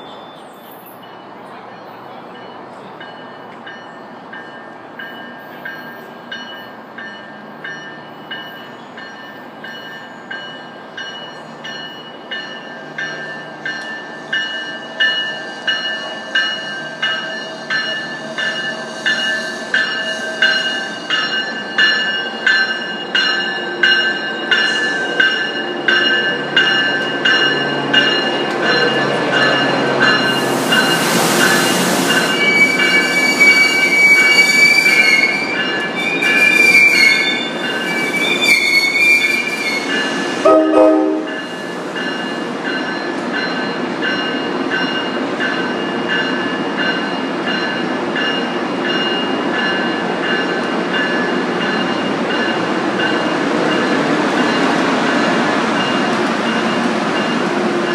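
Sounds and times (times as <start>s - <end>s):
passing train rushing: 0.0s - 57.9s
train bell ringing: 0.0s - 57.9s.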